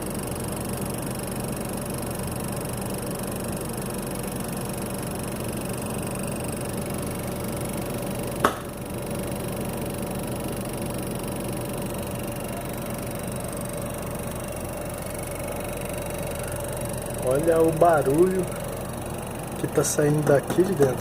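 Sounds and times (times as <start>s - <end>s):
air conditioner outdoor unit running: 0.0s - 21.0s.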